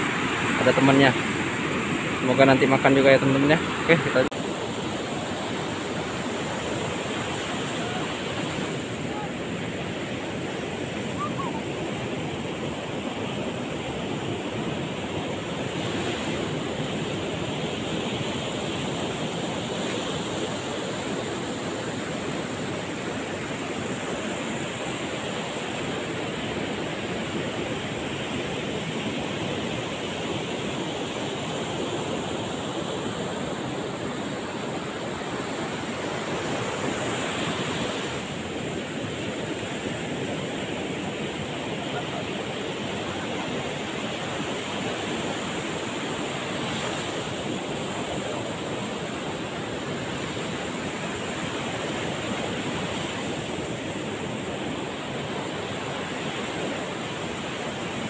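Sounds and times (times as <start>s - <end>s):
surf breaking on beach: 0.0s - 58.0s.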